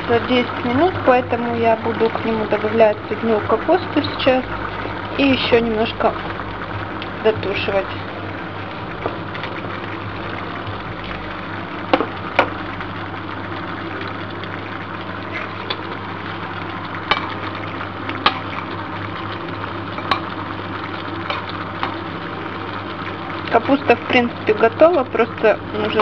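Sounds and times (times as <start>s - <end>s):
food sizzling in a frying pan: 0.0s - 26.0s
low hum: 0.0s - 26.0s.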